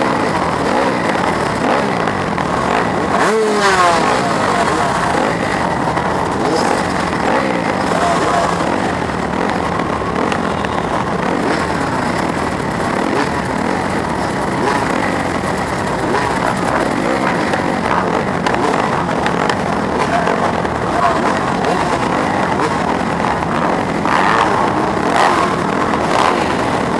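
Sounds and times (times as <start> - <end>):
motocross bikes revving: 0.0 - 26.9.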